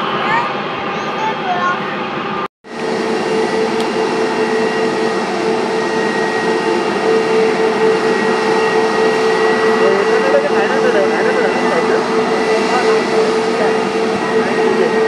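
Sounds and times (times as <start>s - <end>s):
jet engine high whine: 0.0s - 15.0s
jet engines rushing: 0.0s - 15.0s.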